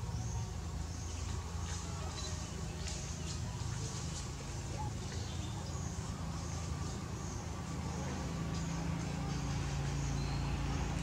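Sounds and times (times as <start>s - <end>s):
faint outdoor ambience: 0.0s - 11.0s
low engine-like hum: 0.0s - 11.0s.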